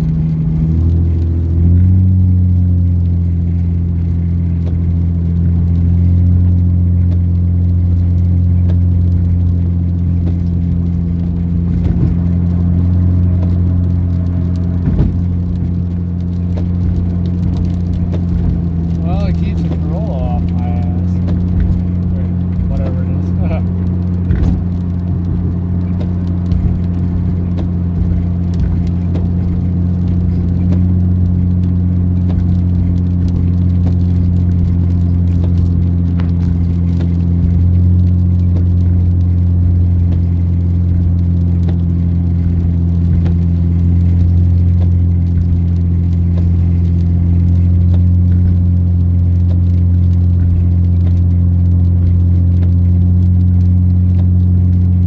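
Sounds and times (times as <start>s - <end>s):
car engine droning in cabin: 0.0s - 55.0s.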